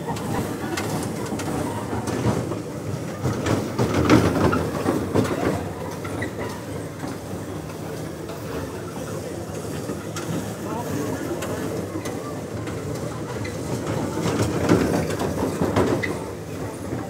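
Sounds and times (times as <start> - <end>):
amusement ride rolling rumble: 0.0 - 17.0.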